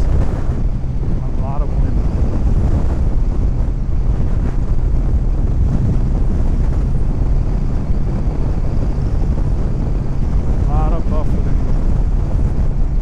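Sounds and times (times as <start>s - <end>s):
motorcycle engine running: 0.0s - 13.0s
road noise: 0.0s - 13.0s
wind buffeting microphone: 0.0s - 13.0s.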